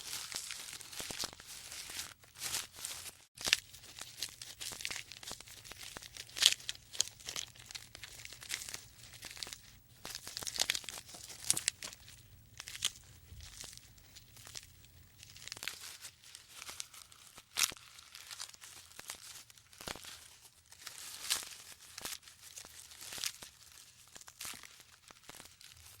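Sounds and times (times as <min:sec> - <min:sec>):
faint crackling and snapping: 0:00.0 - 0:26.0.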